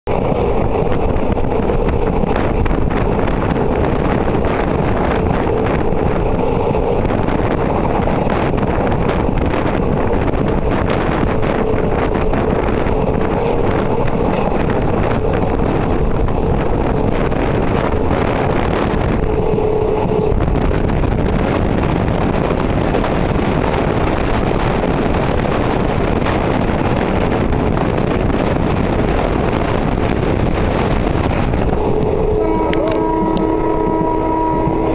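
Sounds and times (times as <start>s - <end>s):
wind rushing past open window: 0.1s - 34.9s.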